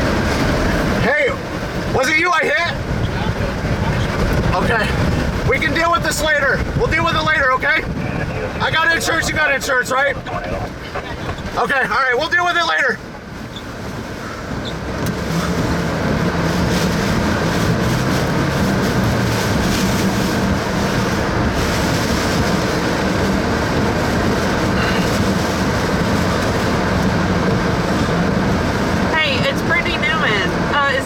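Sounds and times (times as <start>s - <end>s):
low engine hum: 0.0s - 31.0s
road noise: 0.0s - 31.0s.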